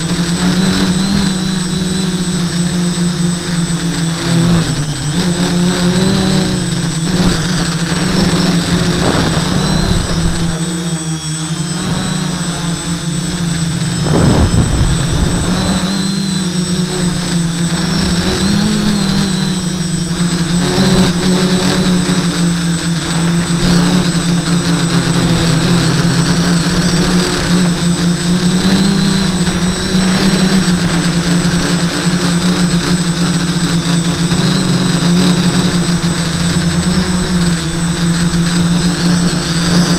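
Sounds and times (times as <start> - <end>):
drone motors humming: 0.0 - 39.9
high-pitched motor whine: 0.0 - 39.9.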